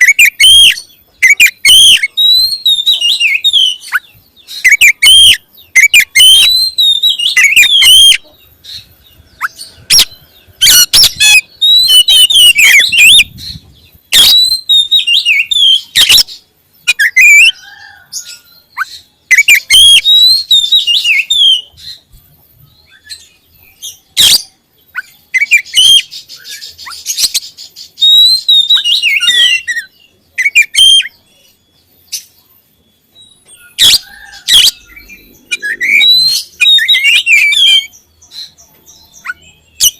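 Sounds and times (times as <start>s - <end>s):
bird singing whistled and harsh notes: 0.0s - 39.9s.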